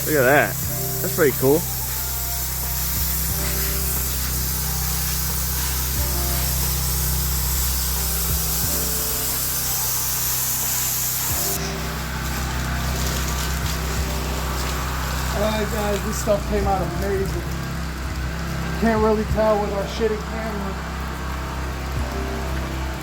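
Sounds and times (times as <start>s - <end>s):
pressure washer engine running: 0.0s - 23.0s
water spraying hiss: 0.0s - 23.0s.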